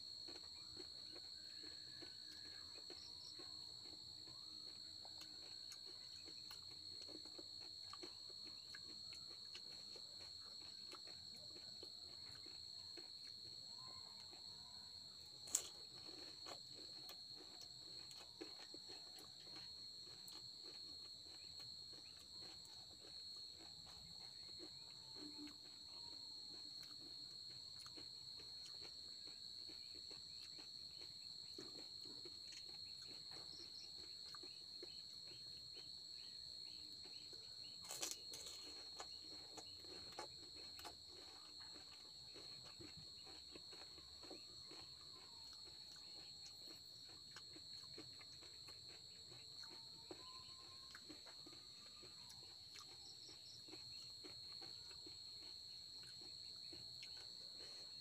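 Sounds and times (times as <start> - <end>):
crunching crisp snacks: 0.0 - 58.0.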